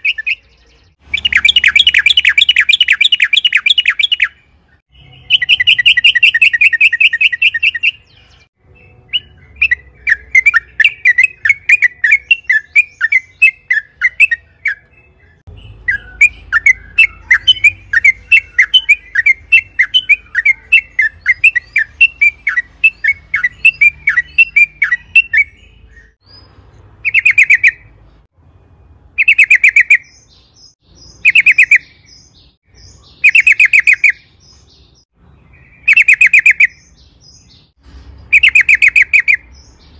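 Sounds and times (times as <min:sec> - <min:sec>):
bird singing bubbling chirps: 0:00.0 - 0:27.9, 0:29.2 - 0:37.7.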